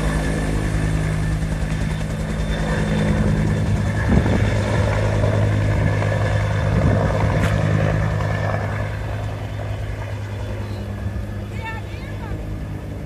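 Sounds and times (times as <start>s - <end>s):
helicopter flying past: 0.0s - 13.0s.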